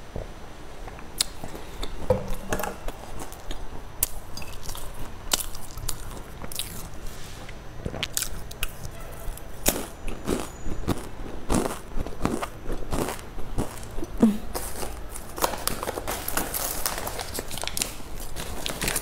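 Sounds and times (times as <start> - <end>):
chewing crunchy snacks: 1.2 - 19.0.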